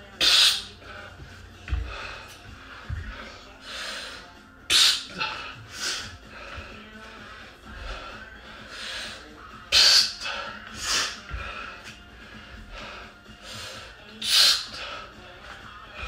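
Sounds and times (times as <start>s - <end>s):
man breathing hard: 0.0s - 16.0s.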